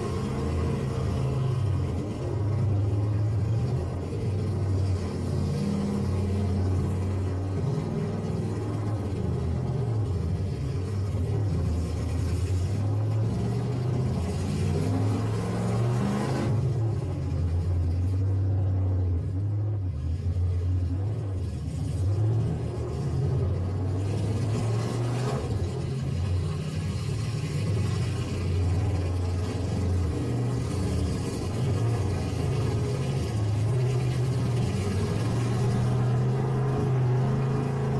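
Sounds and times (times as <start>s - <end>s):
truck engines rumbling: 0.0s - 37.9s.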